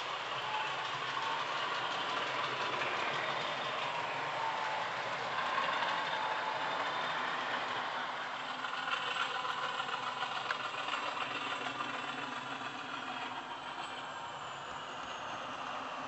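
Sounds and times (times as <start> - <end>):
model locomotive diesel engine sound: 0.0 - 16.0.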